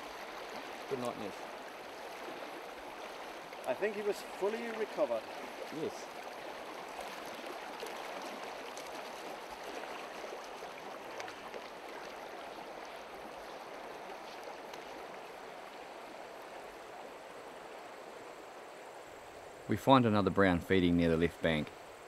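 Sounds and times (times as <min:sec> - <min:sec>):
river water flowing over stones: 0:00.0 - 0:22.0.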